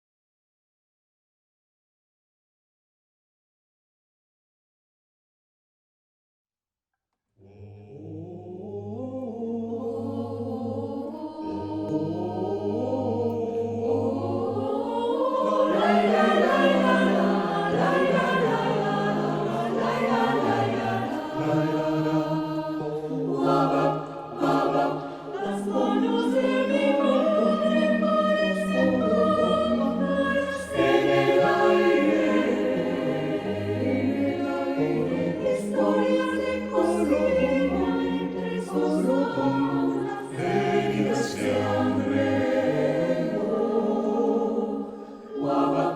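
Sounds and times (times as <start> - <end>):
choir singing in harmony: 7.4 - 45.9.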